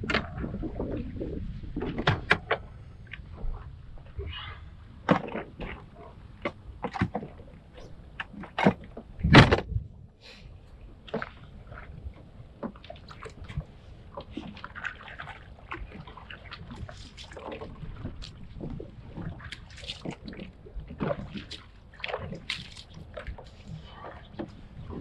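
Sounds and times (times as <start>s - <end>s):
water splashing against a hull: 0.0s - 25.0s.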